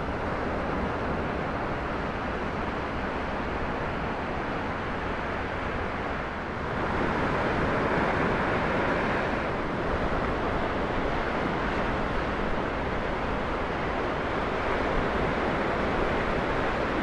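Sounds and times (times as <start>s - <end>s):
ocean surf on shore: 0.0s - 17.0s.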